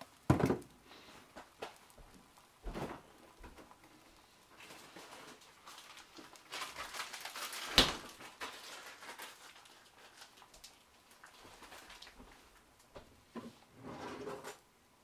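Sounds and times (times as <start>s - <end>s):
egg and bread frying in skillet: 0.0s - 13.0s.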